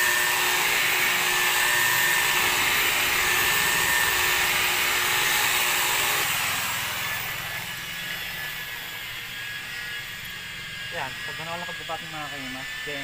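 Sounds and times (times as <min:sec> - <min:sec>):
electric car polisher whining: 0:00.0 - 0:13.0.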